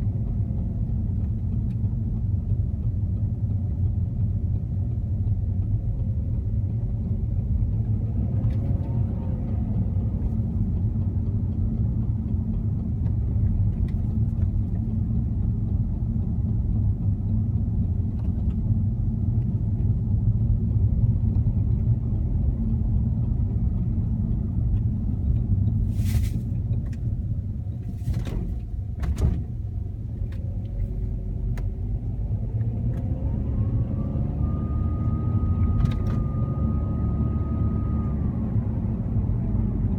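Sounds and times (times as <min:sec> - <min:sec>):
car engine rumbling: 0:00.0 - 0:39.9
engine whine: 0:00.0 - 0:39.9.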